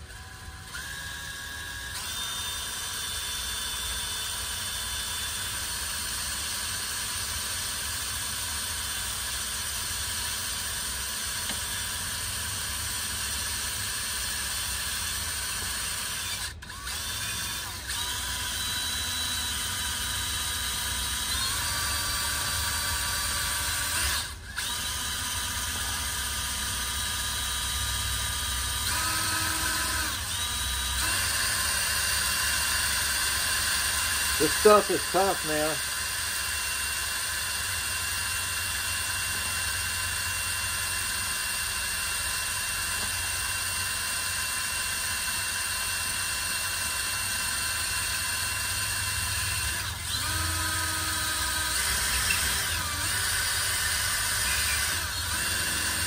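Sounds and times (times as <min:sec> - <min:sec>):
cordless drill whining under load: 0:00.0 - 0:56.0.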